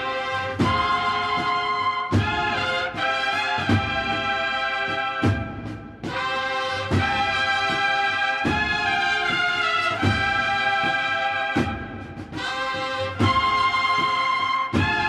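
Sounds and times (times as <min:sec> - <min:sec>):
brass band playing slow chords: 0:00.0 - 0:15.0
drum strokes: 0:00.0 - 0:15.0.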